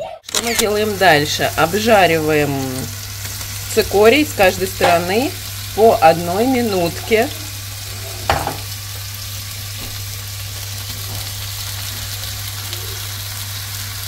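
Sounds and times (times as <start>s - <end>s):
vegetables sizzling in a pan: 0.3s - 14.0s.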